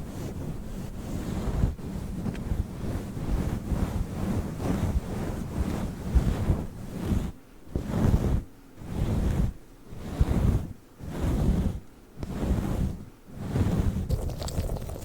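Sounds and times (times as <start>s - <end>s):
microphone windscreen being rubbed: 0.0s - 15.0s.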